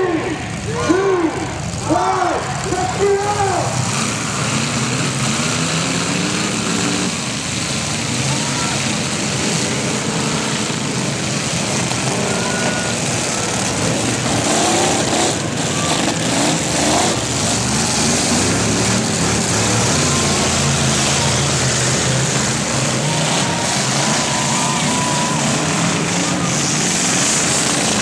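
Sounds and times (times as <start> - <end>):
many car engines revving: 0.0 - 28.0.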